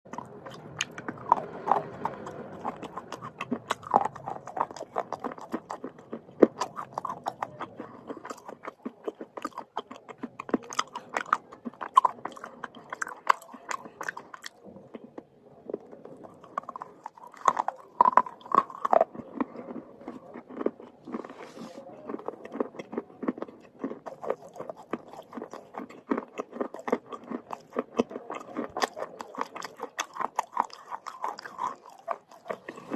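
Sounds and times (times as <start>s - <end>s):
chewing crunchy slate sticks: 0.1s - 32.9s.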